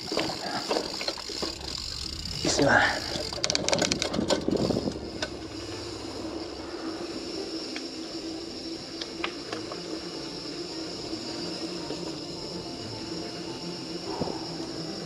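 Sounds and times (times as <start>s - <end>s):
bike clicking and rattling: 0.0s - 15.0s.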